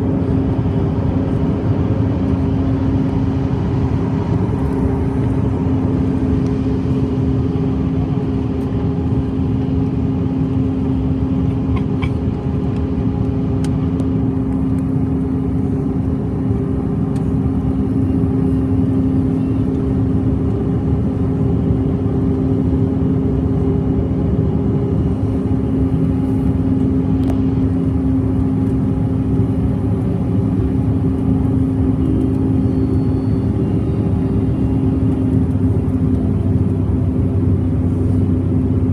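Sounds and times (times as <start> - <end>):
airflow and jet engine rumble: 0.0 - 38.9
two-tone hum drone: 0.0 - 38.9.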